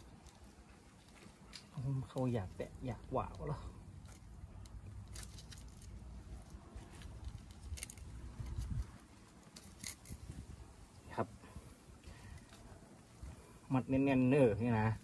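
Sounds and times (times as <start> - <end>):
hands rustling with cord: 0.0 - 13.7.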